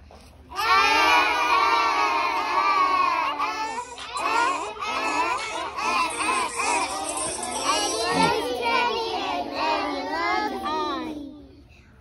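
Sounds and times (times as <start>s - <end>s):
young children singing: 0.5s - 11.5s.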